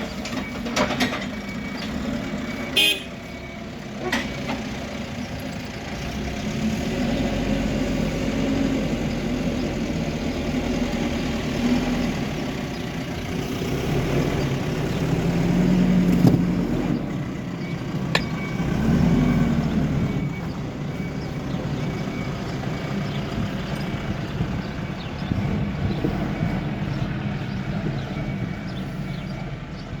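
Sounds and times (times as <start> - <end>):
backhoe diesel engine revving: 0.0 - 30.0.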